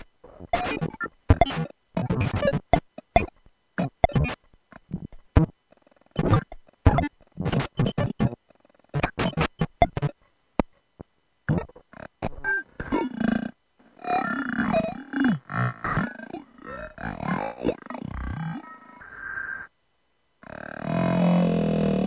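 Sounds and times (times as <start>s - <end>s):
glitchy electronic buzzing bursts: 0.0s - 19.8s, 20.4s - 22.0s.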